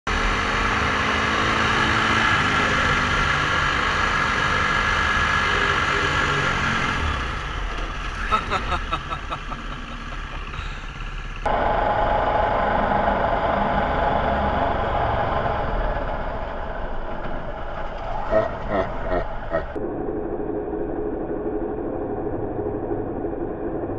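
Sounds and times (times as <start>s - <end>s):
road noise: 0.1s - 22.8s.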